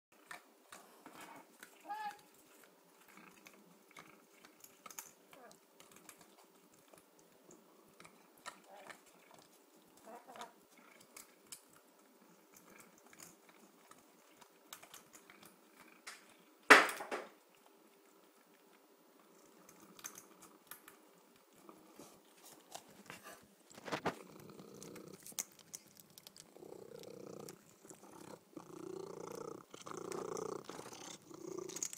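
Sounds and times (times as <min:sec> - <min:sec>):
cat crunching chips: 0:00.2 - 0:16.7, 0:17.4 - 0:31.9.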